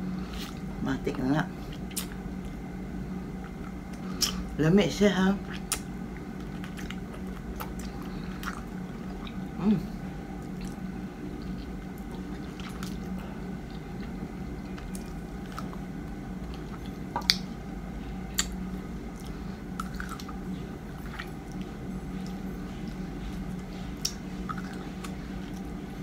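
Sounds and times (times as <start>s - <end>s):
steady low hum: 0.0s - 26.0s
person chewing soft fruit: 1.6s - 4.6s, 5.4s - 26.0s.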